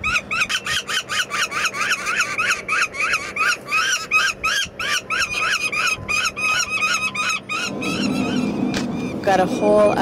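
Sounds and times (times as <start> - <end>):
falcon chick harsh calls: 0.0 - 10.0.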